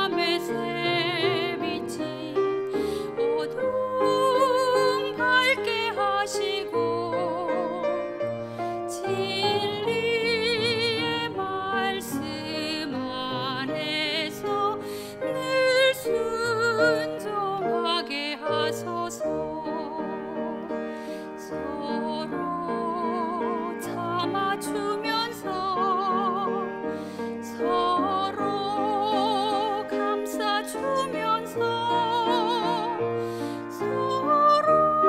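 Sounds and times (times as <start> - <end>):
soprano singing with vibrato: 0.0 - 8.2, 8.8 - 35.0
piano accompaniment: 0.0 - 35.0.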